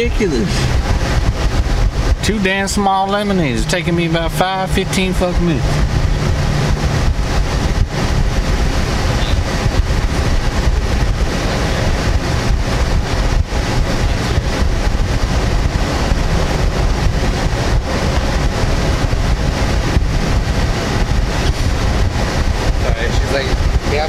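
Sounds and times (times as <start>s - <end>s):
car engine idling: 0.0s - 24.0s
wind buffeting microphone: 0.0s - 24.0s.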